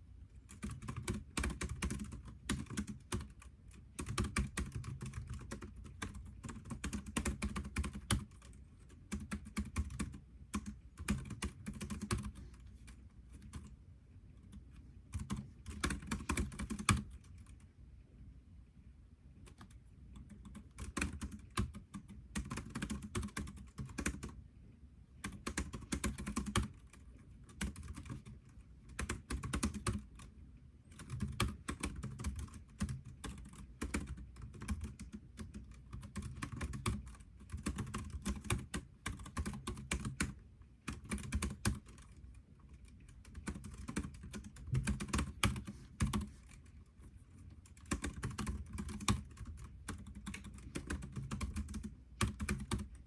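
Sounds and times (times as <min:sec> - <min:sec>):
typing on computer keyboard: 0:00.4 - 0:13.8, 0:14.5 - 0:17.6, 0:19.4 - 0:24.4, 0:25.2 - 0:30.3, 0:30.9 - 0:53.0.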